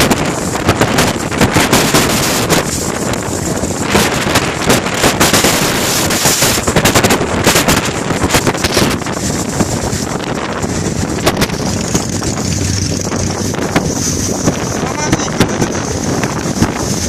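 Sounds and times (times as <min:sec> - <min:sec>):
gale-force wind buffeting microphone: 0:00.0 - 0:17.0.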